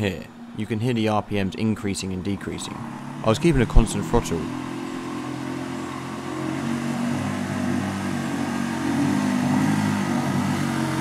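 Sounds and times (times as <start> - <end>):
outboard motor running: 1.9 - 11.0.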